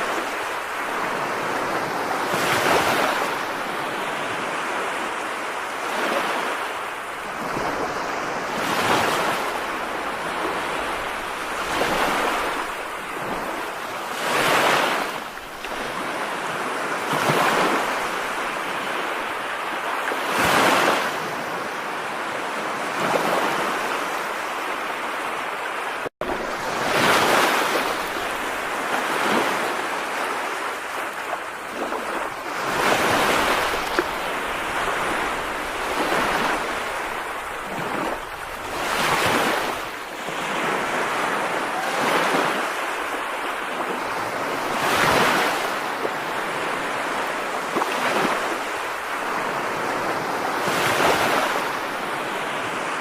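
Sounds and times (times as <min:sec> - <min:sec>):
rushing water: 0:00.0 - 0:21.8, 0:25.3 - 0:53.0.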